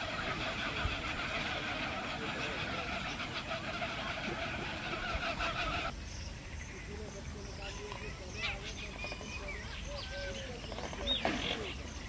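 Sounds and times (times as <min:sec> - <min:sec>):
chorus of birds calling: 0:00.0 - 0:12.0.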